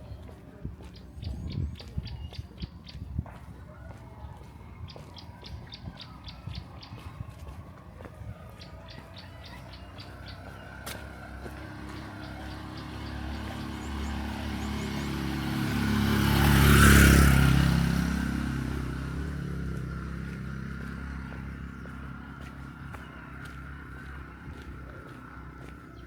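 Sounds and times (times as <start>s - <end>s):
vehicle engine driving past: 0.2s - 26.0s.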